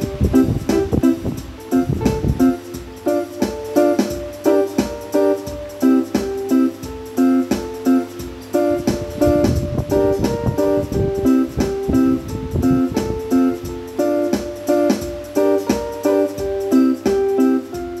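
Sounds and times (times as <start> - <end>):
electronic keyboard melody: 0.0 - 18.0.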